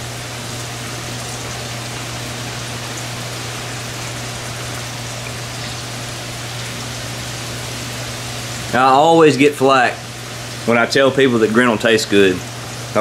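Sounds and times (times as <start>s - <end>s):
constant low hum: 0.0s - 13.0s
fish frying in hot oil: 0.0s - 13.0s.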